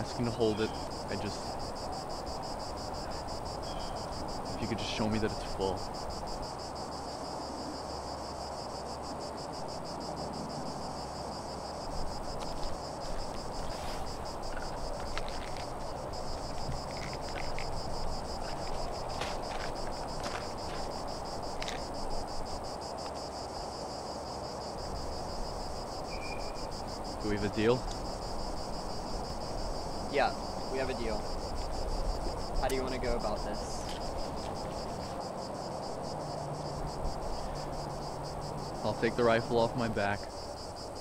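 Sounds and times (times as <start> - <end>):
insects trilling: 0.0 - 41.0
soft outdoor hiss: 0.0 - 41.0.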